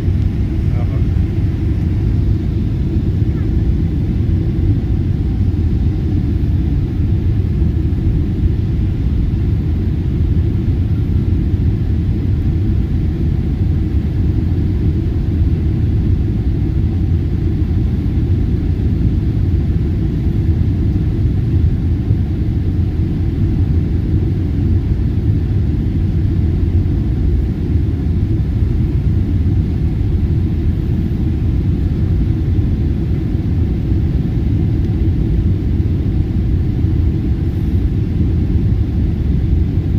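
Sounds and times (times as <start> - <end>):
jet engines and airflow rumble: 0.0 - 39.9.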